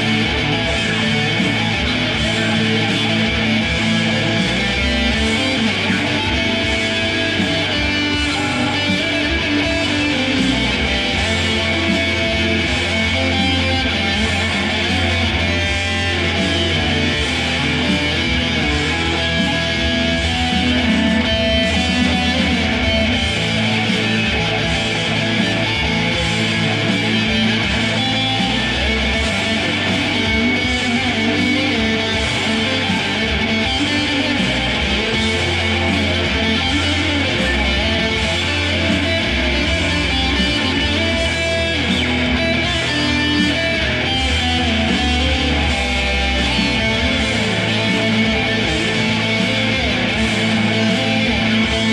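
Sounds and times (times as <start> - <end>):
electric guitar playing: 0.0 - 51.9.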